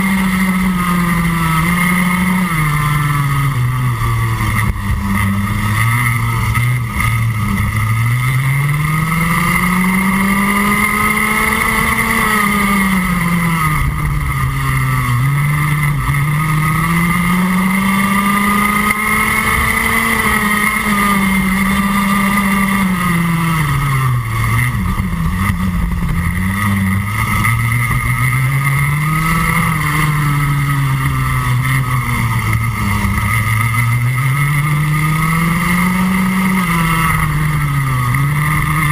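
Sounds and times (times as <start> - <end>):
kart engine revving: 0.0 - 38.9.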